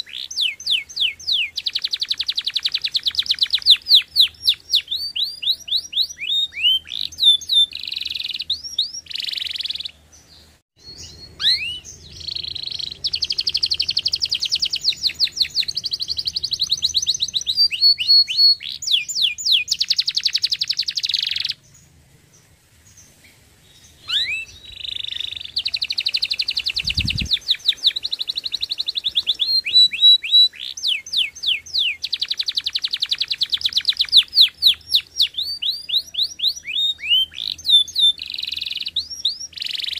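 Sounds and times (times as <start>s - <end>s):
canary singing: 0.0s - 21.9s, 23.6s - 39.9s.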